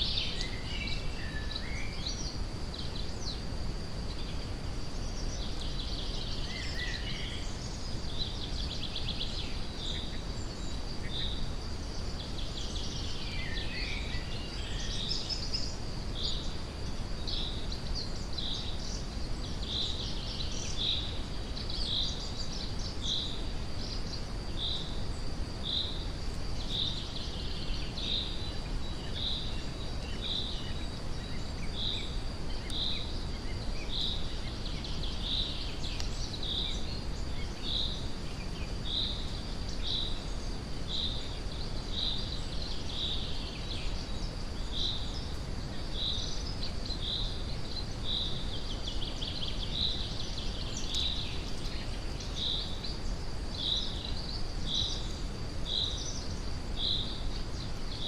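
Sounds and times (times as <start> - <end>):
high-pitched insect trill: 0.0 - 58.0.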